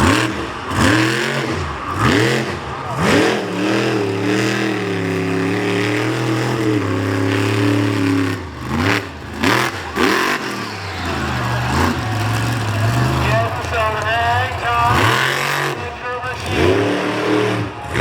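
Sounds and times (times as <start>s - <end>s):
truck engine idling and revving: 0.0s - 18.0s.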